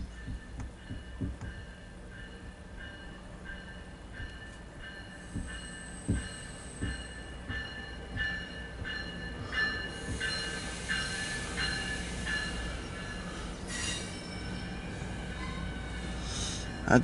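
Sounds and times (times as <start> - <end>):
train bell ringing: 0.0 - 17.0
train rolling noise: 0.0 - 17.0.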